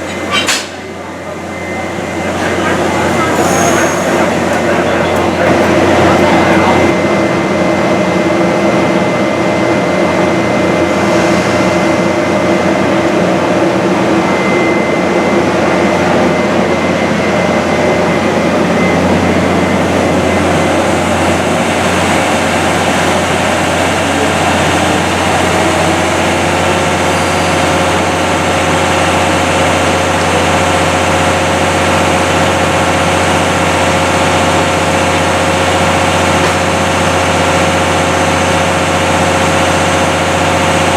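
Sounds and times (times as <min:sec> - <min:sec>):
locomotive engine hum: 0:00.0 - 0:40.9.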